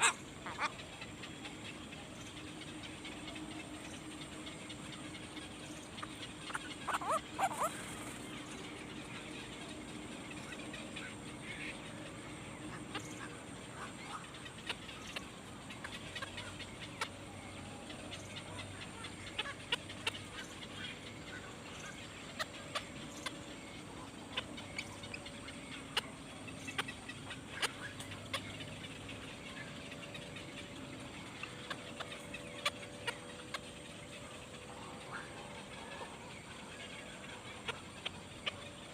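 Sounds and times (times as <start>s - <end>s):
bird calls and chirps: 0.0s - 38.9s
steady background hum: 0.0s - 38.9s.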